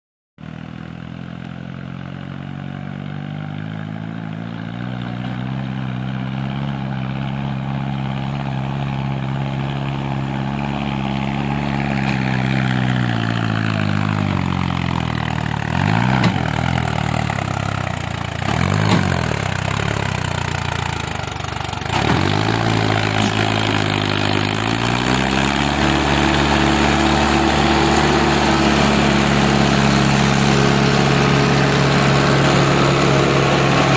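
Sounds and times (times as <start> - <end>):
tractor diesel engine idling: 0.5 - 33.9.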